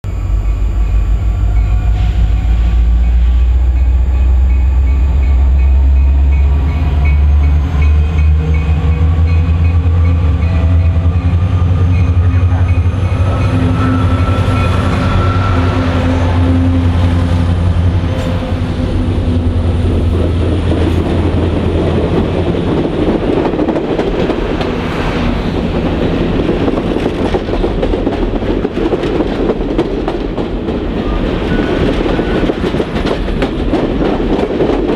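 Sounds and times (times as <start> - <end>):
diesel locomotive engine rumble: 0.0 - 34.9
train cars rolling and clattering: 0.2 - 34.9.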